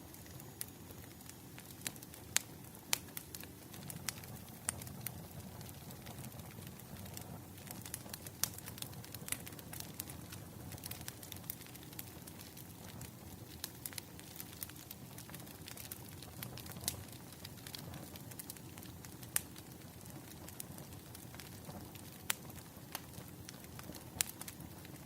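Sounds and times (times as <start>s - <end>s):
firewood crackling and popping: 0.0s - 25.0s.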